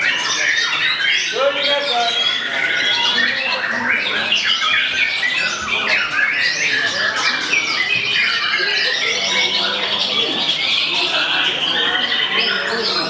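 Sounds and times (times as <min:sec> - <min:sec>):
other songbirds singing: 0:00.0 - 0:13.0.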